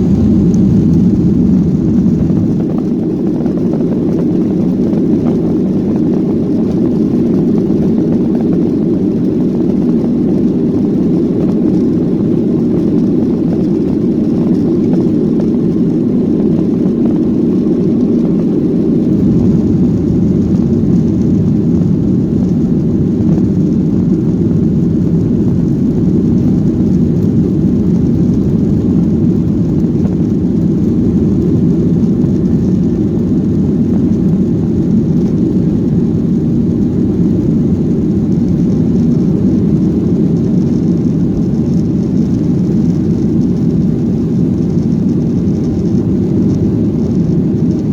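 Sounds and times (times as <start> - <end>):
jet engines roaring in cabin: 0.0 - 47.9.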